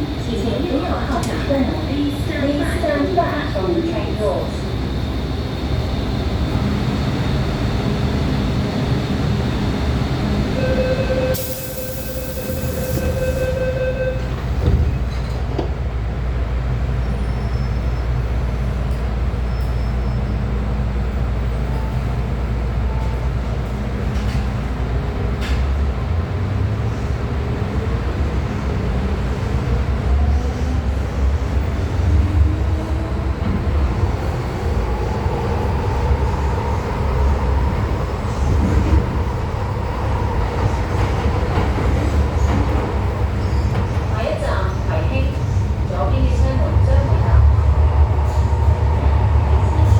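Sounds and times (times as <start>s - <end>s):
train running rumble: 0.0s - 49.9s.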